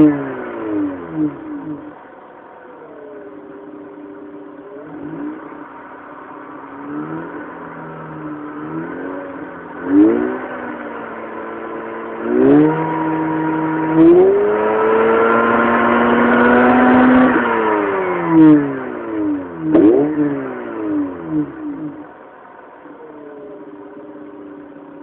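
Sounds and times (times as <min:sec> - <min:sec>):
rotary engine revving: 0:00.0 - 0:25.0.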